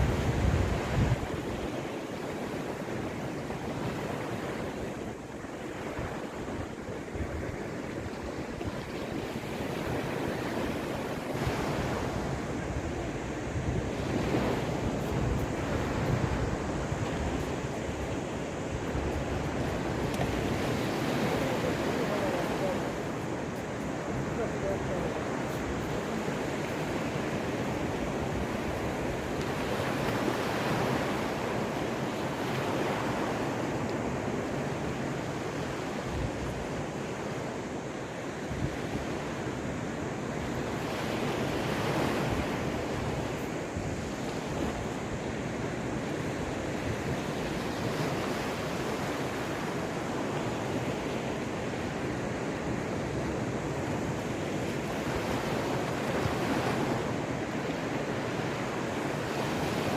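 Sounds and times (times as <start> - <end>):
waves washing onto shore: 0.0 - 59.9.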